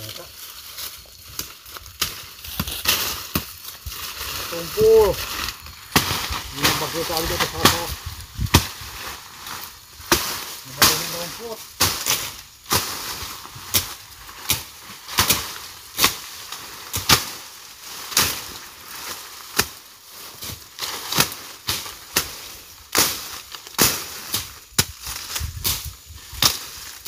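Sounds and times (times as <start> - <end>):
machete chopping undergrowth: 0.8 - 27.0.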